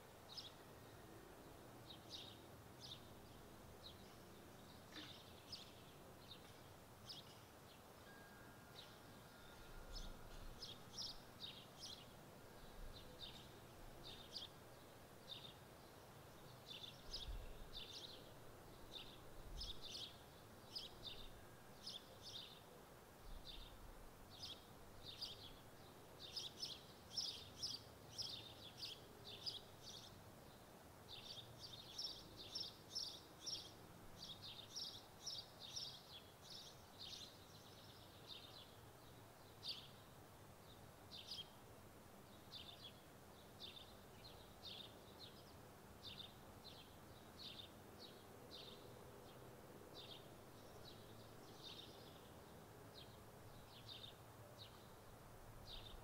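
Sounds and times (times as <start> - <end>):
background hiss: 0.0 - 56.0
small birds chirping: 0.2 - 7.9, 8.7 - 22.7, 23.3 - 56.0.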